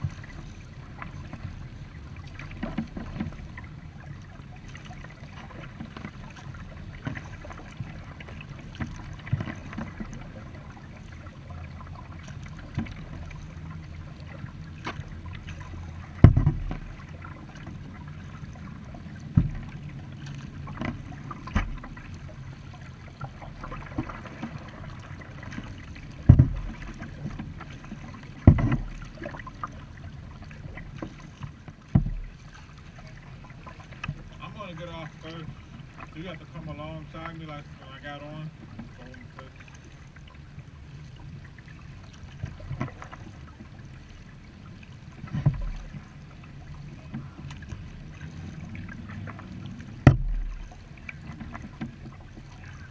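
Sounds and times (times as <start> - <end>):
paddle water splashing: 0.0 - 52.9.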